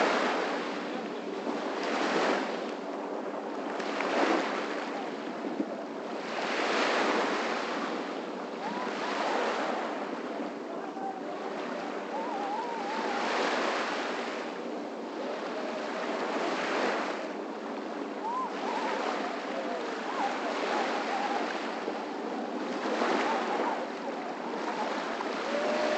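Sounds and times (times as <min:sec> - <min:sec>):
small waves on sandy beach: 0:00.0 - 0:25.9
wind on microphone: 0:00.0 - 0:25.9.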